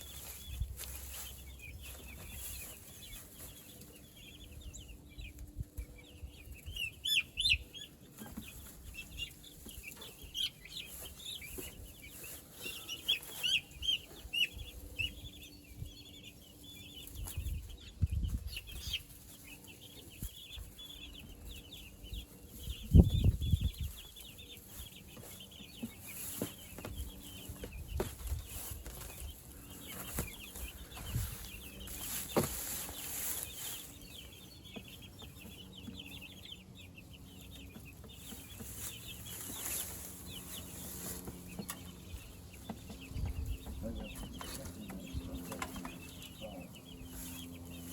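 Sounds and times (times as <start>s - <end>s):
chickens peeping and clucking: 0.0s - 47.9s.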